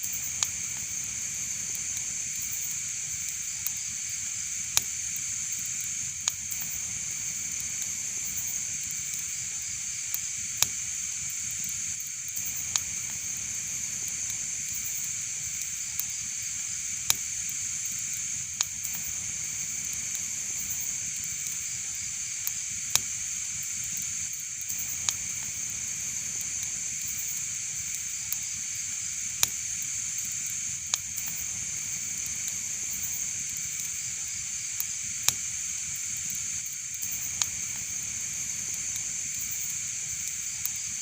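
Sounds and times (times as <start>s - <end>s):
fire crackling in fireplace: 0.0s - 41.0s.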